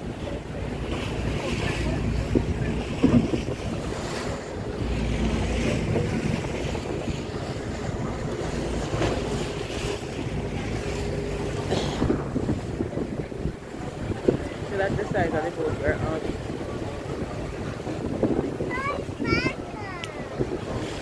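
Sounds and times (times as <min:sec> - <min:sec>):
low engine hum: 0:00.0 - 0:21.0
sea washing against hull: 0:00.0 - 0:21.0
wind buffeting microphone: 0:00.0 - 0:21.0.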